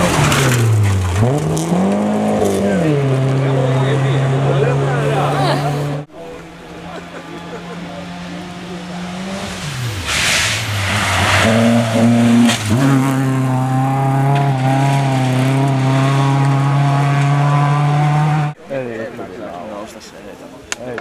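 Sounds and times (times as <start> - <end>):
rally car engine revving: 0.0 - 18.6
rush of gravel and tyre noise: 0.0 - 18.6.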